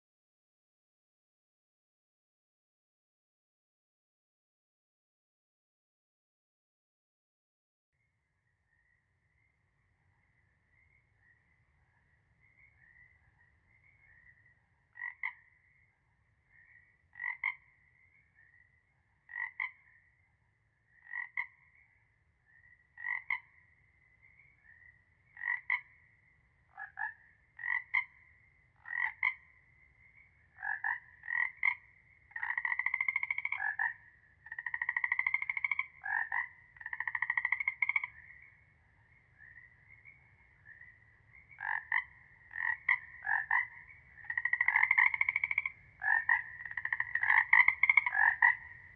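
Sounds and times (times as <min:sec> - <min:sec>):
frogs croaking: 0:08.6 - 0:48.9.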